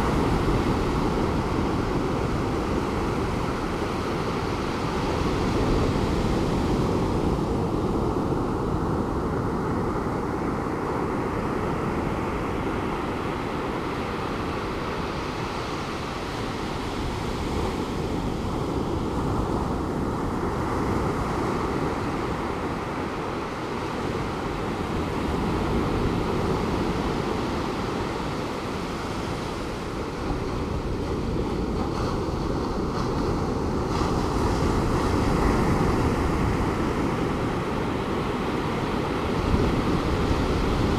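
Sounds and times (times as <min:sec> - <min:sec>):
ocean surf breaking on beach: 0:00.0 - 0:40.9
wind noise on microphone: 0:00.0 - 0:40.9.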